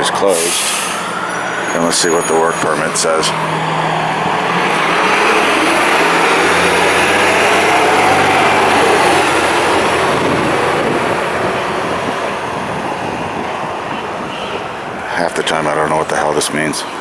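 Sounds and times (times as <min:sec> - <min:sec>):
large vehicle passing close: 0:00.0 - 0:17.0.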